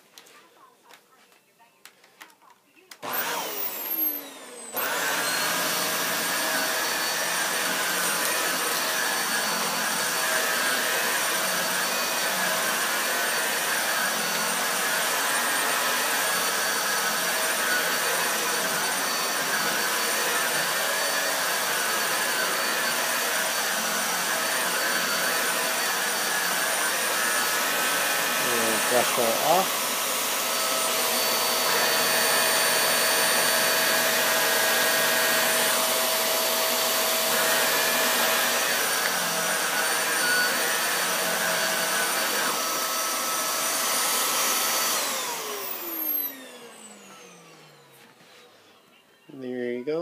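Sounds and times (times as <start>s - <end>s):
upright vacuum cleaner running: 3.0s - 50.0s.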